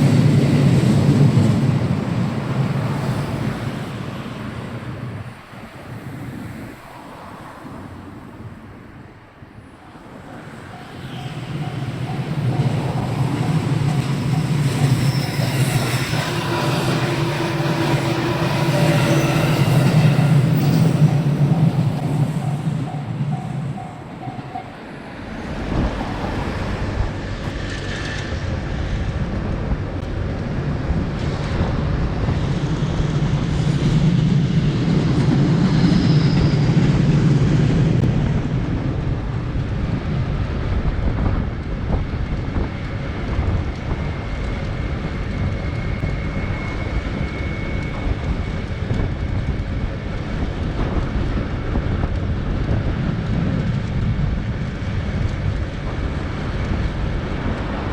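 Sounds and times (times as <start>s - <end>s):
train rumbling past: 0.0s - 57.9s
wind buffeting microphone: 0.0s - 57.9s.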